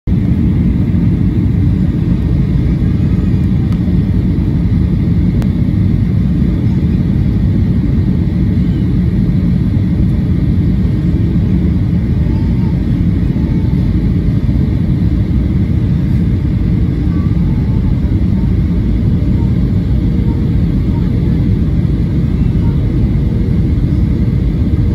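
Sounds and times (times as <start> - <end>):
airflow over fuselage: 0.1 - 24.9
airplane cabin engine roar: 0.1 - 24.9.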